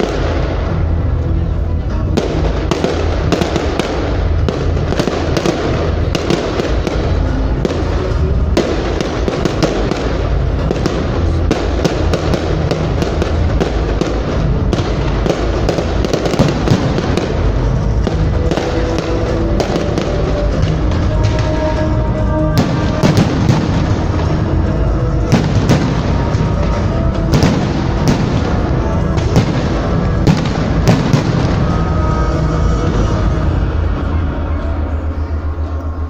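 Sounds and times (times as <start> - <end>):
fireworks bangs and crackles: 0.0 - 35.8
music playing: 0.0 - 36.0.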